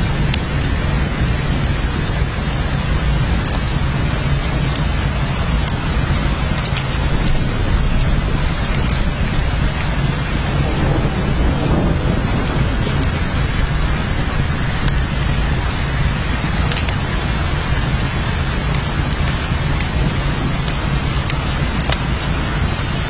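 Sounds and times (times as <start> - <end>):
heavy rain: 0.0 - 23.0
low rumble: 0.0 - 23.0
rain drop ticks: 0.0 - 23.0.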